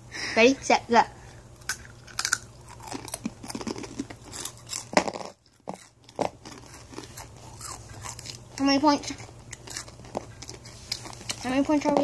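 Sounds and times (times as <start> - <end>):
people crunching chips: 1.6 - 12.0.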